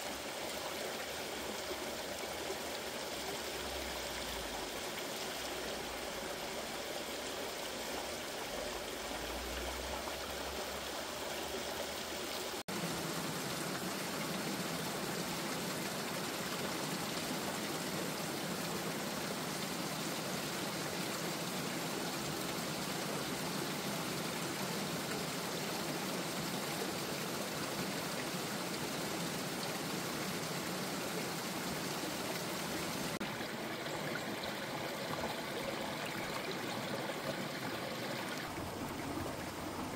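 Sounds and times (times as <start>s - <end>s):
stream splashing over rocks: 0.1s - 39.9s.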